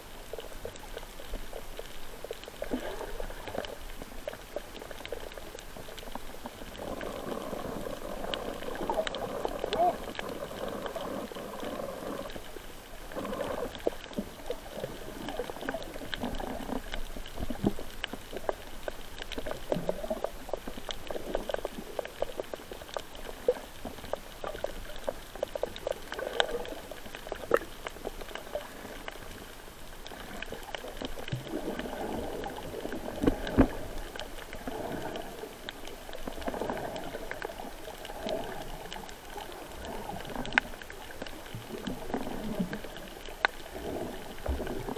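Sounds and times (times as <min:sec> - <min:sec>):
underwater gurgling and bubbling: 0:00.0 - 0:44.9.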